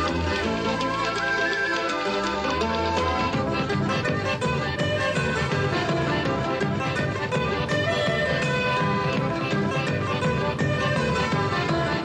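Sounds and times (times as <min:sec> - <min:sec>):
jaunty instrumental tune with beat: 0:00.0 - 0:12.0.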